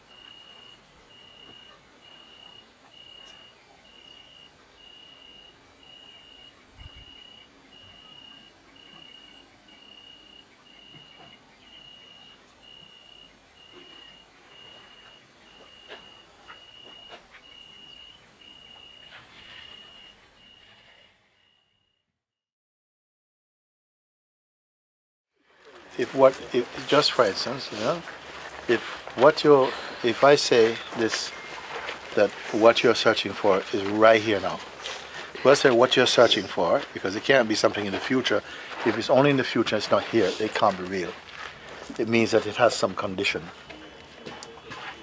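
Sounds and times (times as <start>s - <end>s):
cricket trilling: 0.0s - 22.0s, 25.7s - 41.2s.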